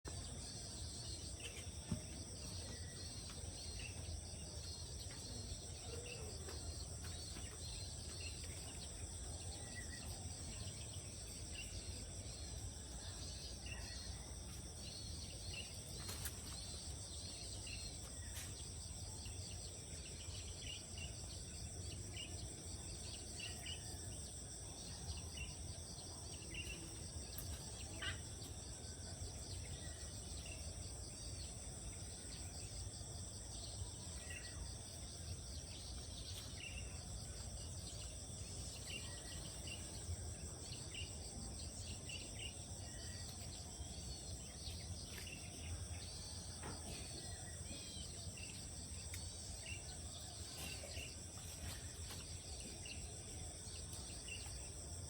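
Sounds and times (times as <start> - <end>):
insects chorus: 0.1 - 55.0.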